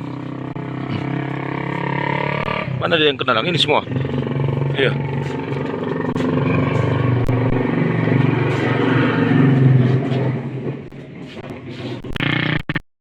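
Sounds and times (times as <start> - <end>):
motor engine running: 0.0 - 12.8.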